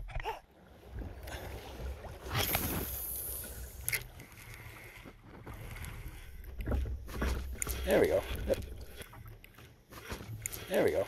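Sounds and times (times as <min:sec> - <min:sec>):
water lapping against a hull: 0:00.0 - 0:11.0.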